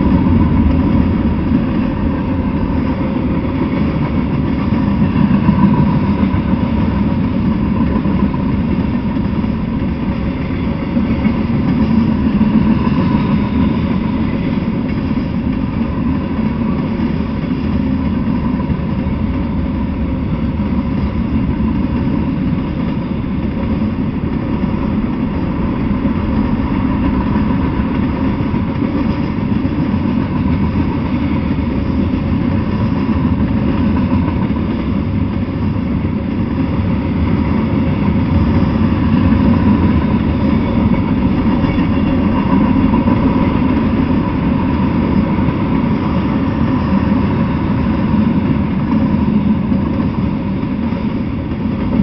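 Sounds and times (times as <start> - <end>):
freight train rolling past: 0.0 - 52.0.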